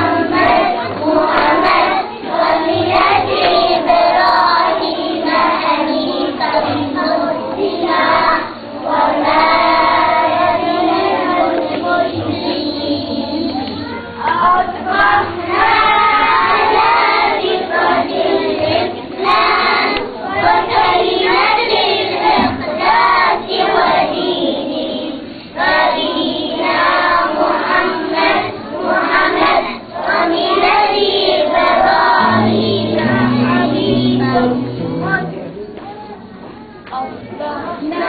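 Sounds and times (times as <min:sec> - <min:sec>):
children singing in unison: 0:00.0 - 0:35.6, 0:37.3 - 0:38.0.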